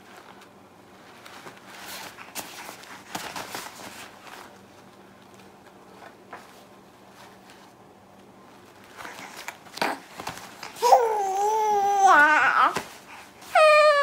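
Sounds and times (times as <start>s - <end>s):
diaper crinkling and rustling: 0.0s - 7.8s, 8.6s - 14.0s.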